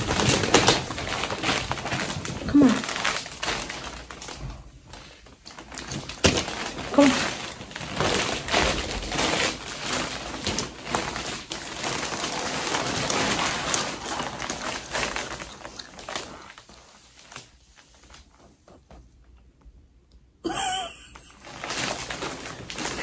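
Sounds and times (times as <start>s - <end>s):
paper tearing and crumpling: 0.0s - 18.4s, 21.2s - 23.0s.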